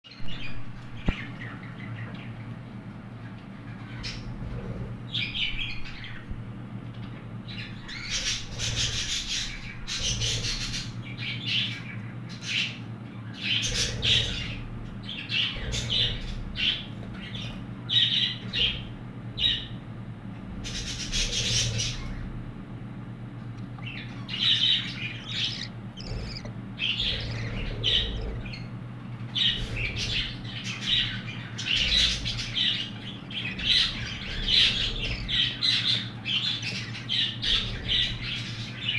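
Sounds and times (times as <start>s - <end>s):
steady low hum: 0.0s - 38.9s
bird chicks calling: 0.1s - 38.9s.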